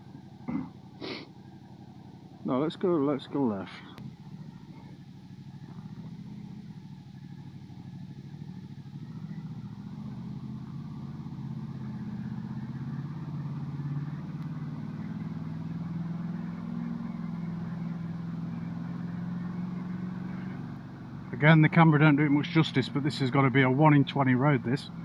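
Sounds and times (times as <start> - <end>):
motorcycle engine under load: 0.0 - 25.0.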